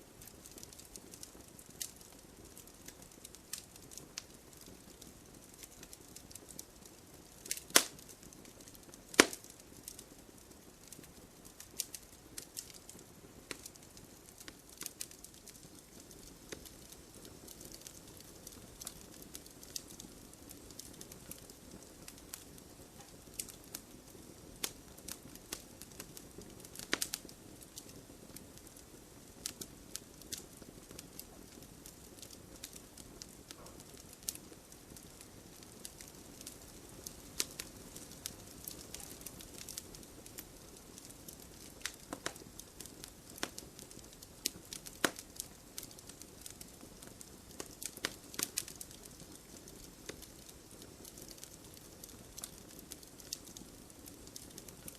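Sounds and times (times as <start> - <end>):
low steady hiss: 0.0 - 54.9
wood fire crackling: 0.0 - 54.9.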